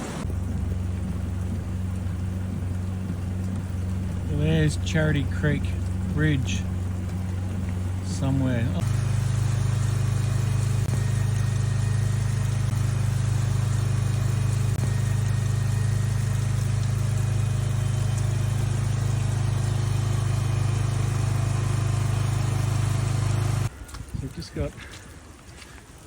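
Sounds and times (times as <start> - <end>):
low engine drone: 0.0 - 23.7.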